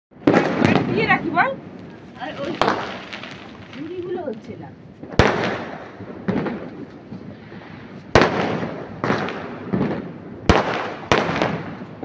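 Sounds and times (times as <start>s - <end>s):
fireworks bangs with echo: 0.2s - 12.0s.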